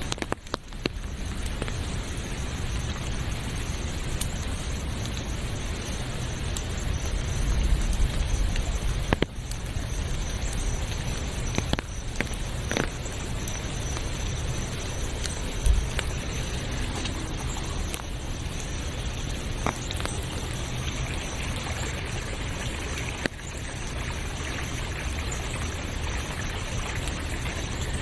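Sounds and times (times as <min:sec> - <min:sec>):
rain hiss: 0:00.0 - 0:28.0
raindrop clicks: 0:00.0 - 0:28.0.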